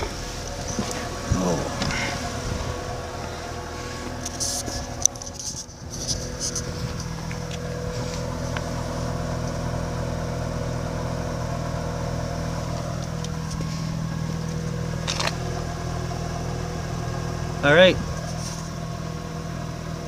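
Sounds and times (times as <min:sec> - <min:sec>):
rotary engine idling: 0:00.0 - 0:20.0.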